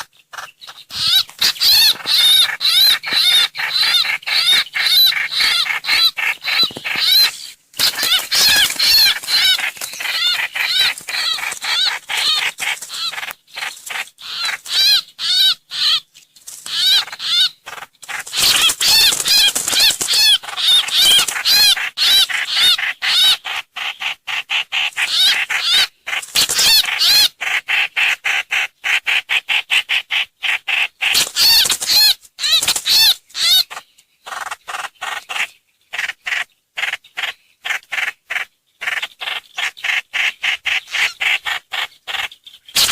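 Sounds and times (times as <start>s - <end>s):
bird chattering calls: 0.0s - 42.9s.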